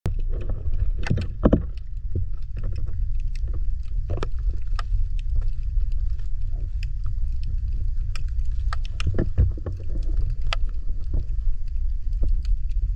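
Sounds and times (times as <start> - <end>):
sharp underwater clicks: 0.1 - 12.9
underwater low rumble: 0.1 - 12.9.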